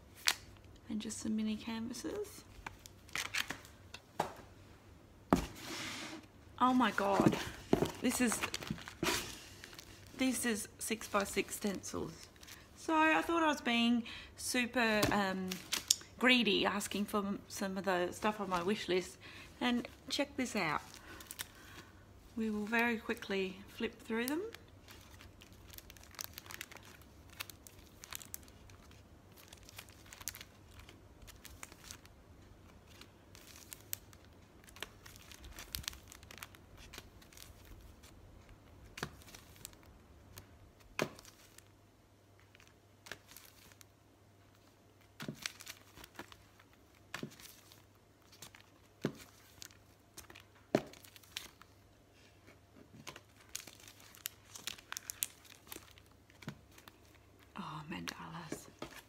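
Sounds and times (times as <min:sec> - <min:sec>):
plastic crinkling and rustling: 0:01.9 - 0:04.4, 0:05.4 - 0:12.7, 0:14.7 - 0:17.1, 0:19.7 - 0:59.0.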